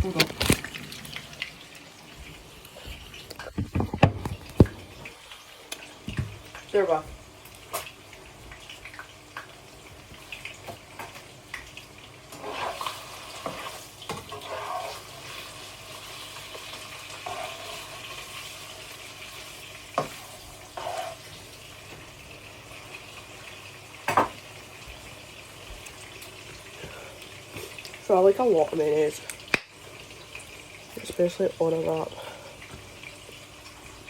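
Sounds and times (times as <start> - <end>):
food sizzling in a frying pan: 0.0 - 34.0.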